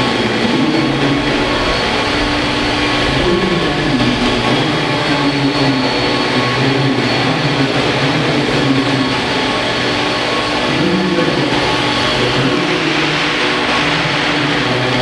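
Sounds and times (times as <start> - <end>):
model helicopter rotor drone: 0.0 - 15.0.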